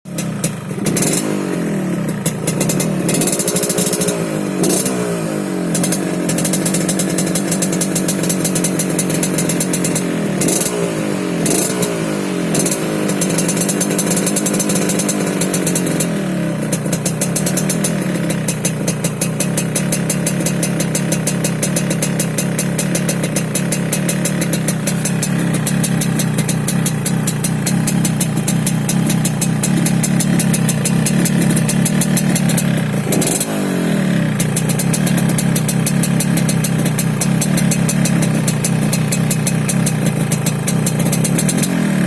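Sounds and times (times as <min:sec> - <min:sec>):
two-stroke motorcycle engine revving: 0:00.1 - 0:42.0.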